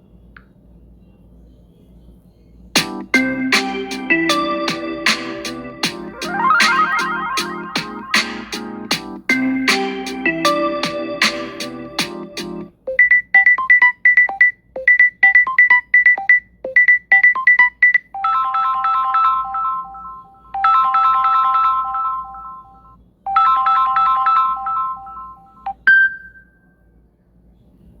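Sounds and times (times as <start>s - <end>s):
phone ringtone: 3.0s - 26.5s.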